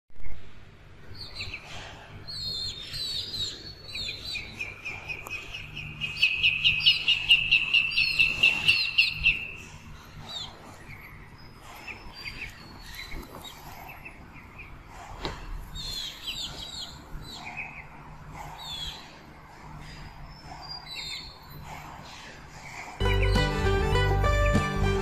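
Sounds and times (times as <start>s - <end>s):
chicks and ducklings peeping: 1.2s - 25.0s.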